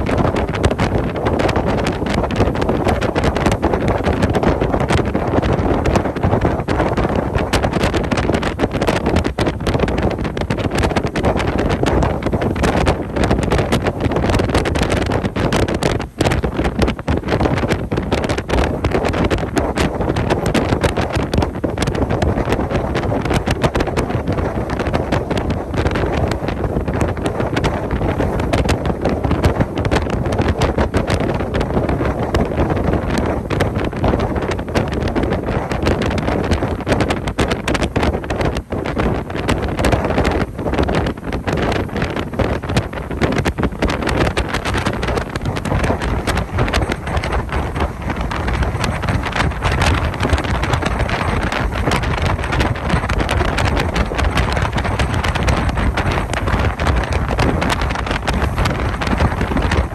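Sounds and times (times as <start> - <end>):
boat moving through water: 0.0 - 59.9
wind buffeting microphone: 0.0 - 59.9.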